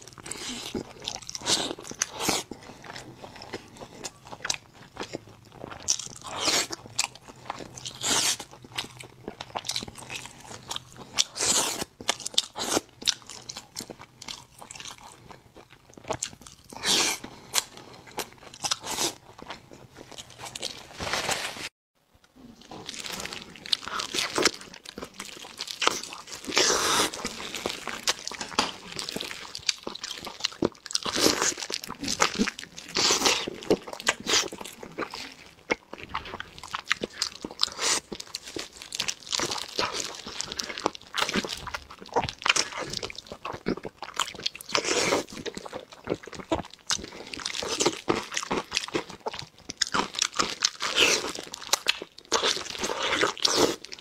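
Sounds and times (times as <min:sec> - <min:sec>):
person chewing with wet smacks: 0:00.0 - 0:20.7, 0:22.4 - 0:54.0.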